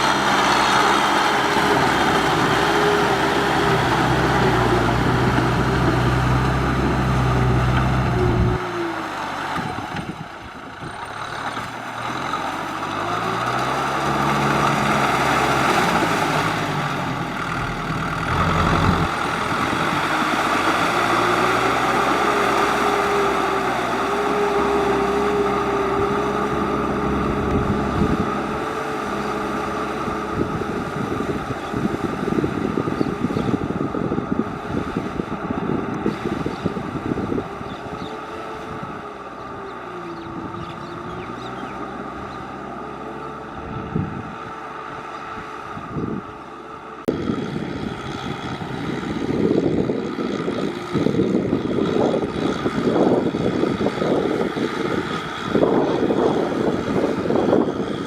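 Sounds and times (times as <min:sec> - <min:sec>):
tractor engine working hard: 0:00.0 - 0:58.0.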